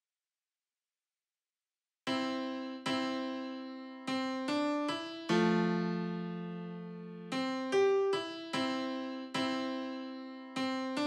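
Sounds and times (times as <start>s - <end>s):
keyboard music: 2.1s - 11.0s.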